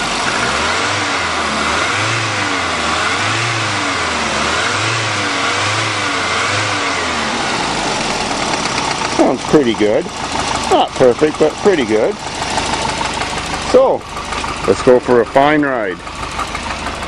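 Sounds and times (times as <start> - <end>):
turbocharged car engine revving: 0.0 - 17.0.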